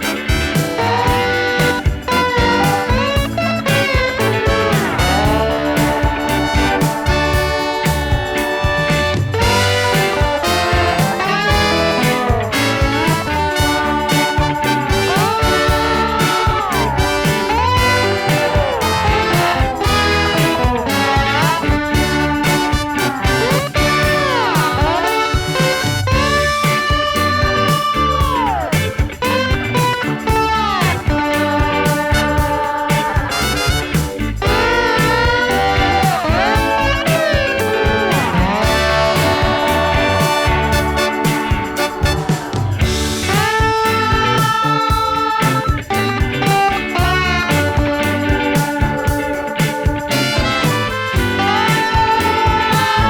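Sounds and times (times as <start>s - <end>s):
bass: 0.0s - 53.0s
drum beat: 0.0s - 53.0s
instrumental background music: 0.0s - 53.0s
sliding guitar notes: 0.0s - 53.0s
swing jazz with brass horns: 0.0s - 53.0s.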